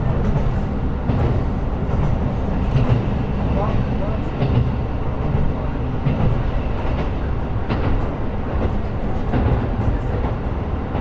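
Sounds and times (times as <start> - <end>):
railcar engine and wheels rumbling: 0.0 - 11.0.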